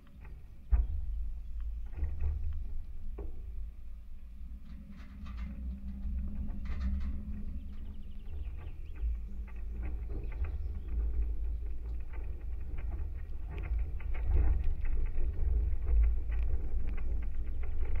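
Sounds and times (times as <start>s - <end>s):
deep rumble of pole vibration: 0.0s - 18.0s.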